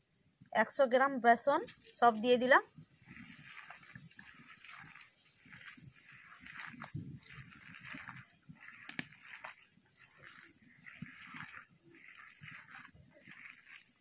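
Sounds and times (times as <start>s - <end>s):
hand squelching wet batter: 2.2s - 14.0s.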